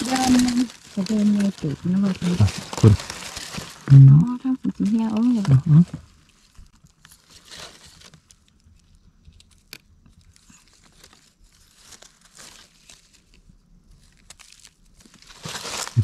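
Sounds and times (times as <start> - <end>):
hands rustling dry leaves: 0.0 - 16.0.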